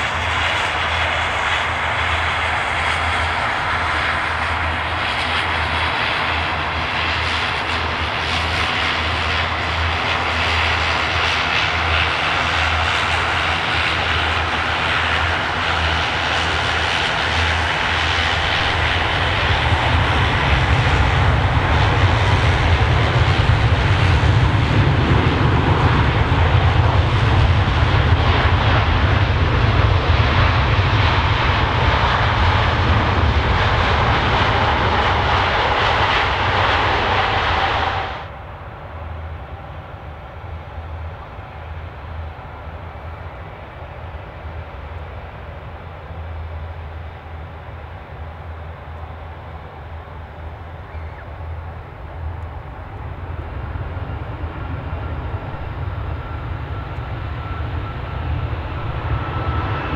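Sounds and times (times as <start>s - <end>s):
deep rumble of airliner on runway: 0.0s - 59.9s
jet engine roar: 0.0s - 59.9s.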